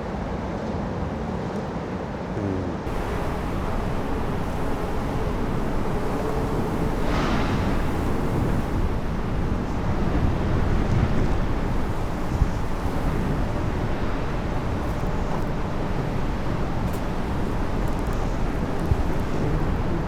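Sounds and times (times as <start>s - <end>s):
strong wind buffeting microphone: 2.8s - 20.0s.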